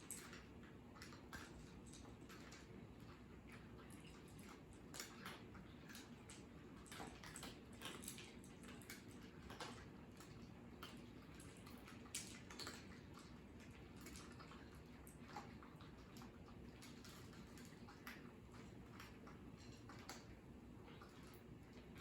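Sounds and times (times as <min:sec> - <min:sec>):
cats chewing food: 0:00.0 - 0:22.0.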